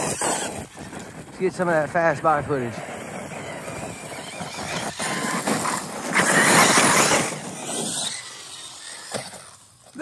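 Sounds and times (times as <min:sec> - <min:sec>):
rc car motor and drivetrain: 0:00.0 - 0:10.0
tyres on loose dirt: 0:00.0 - 0:10.0.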